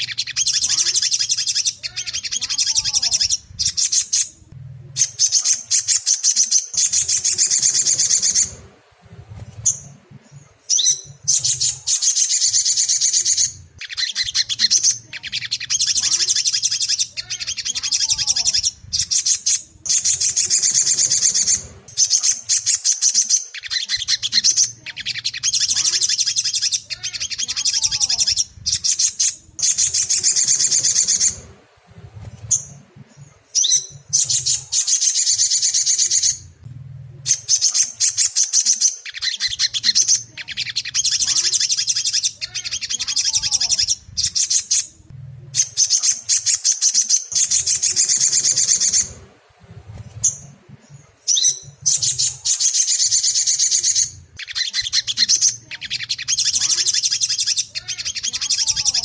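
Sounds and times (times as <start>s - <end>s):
low hum: 0.0s - 6.0s, 6.7s - 22.8s, 24.0s - 38.3s, 39.5s - 46.6s, 47.3s - 59.0s
bird chattering calls: 0.0s - 36.6s, 37.2s - 59.0s.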